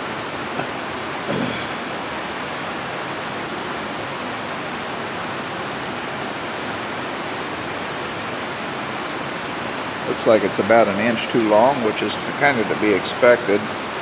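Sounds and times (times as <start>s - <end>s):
heavy rain on a roof: 0.0s - 14.0s.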